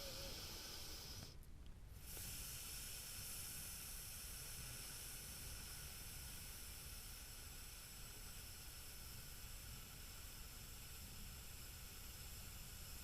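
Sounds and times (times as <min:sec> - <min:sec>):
long breath exhale: 0:00.0 - 0:01.4, 0:02.0 - 0:13.0.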